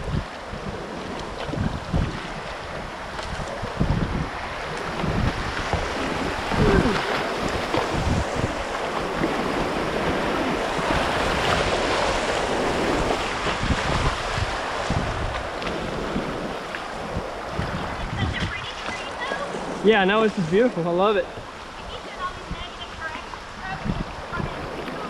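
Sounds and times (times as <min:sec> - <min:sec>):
rushing whitewater: 0:00.0 - 0:25.0
wind buffeting microphone: 0:00.0 - 0:25.0.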